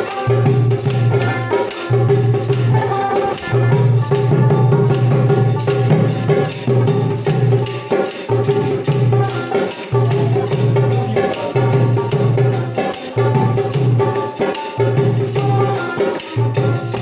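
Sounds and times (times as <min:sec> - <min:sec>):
hand cymbals clinking: 0:00.0 - 0:17.0.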